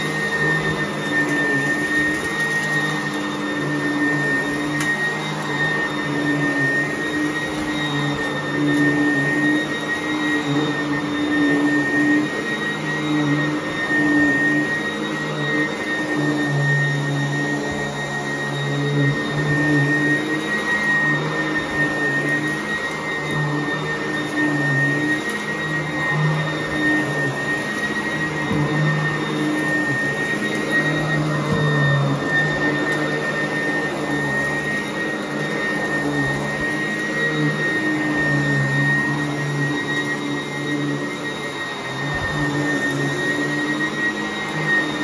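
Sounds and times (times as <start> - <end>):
vacuum cleaner running: 0.0 - 45.0.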